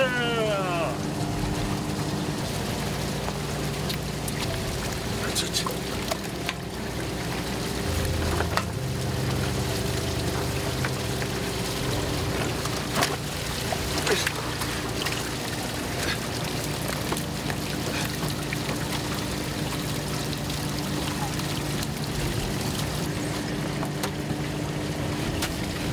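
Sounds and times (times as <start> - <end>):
boat engine humming: 0.0 - 25.9
water splashing on deck: 0.0 - 25.9.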